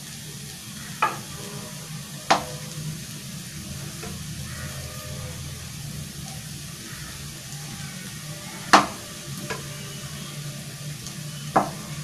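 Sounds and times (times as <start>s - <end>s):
vegetables sizzling in pan: 0.0s - 12.0s.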